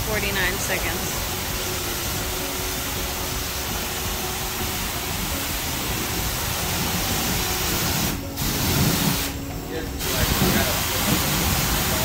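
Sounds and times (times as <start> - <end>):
pressure washer spraying water: 0.0 - 12.0.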